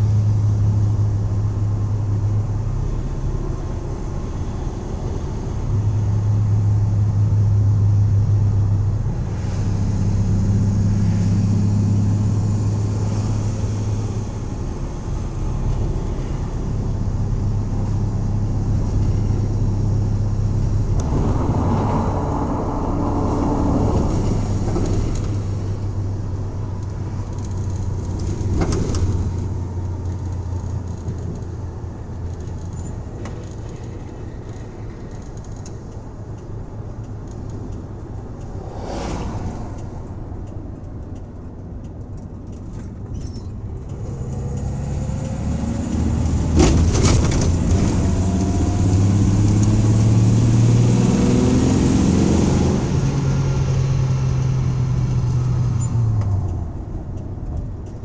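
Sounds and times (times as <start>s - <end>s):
van engine revving while driving: 0.0s - 32.5s, 43.7s - 58.0s.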